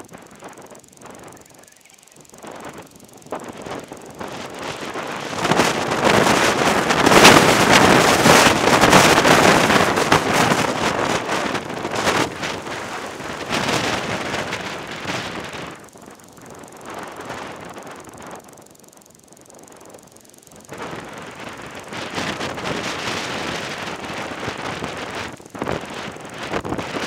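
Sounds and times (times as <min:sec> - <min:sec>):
gusty wind buffeting microphone: 0:00.0 - 0:27.0.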